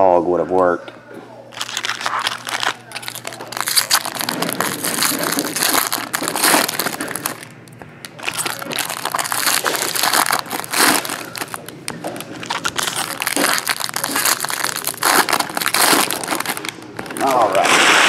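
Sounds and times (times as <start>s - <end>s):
foil pack tearing: 1.5s - 7.5s, 8.1s - 18.0s
foil wrappers crinkling: 1.5s - 18.0s.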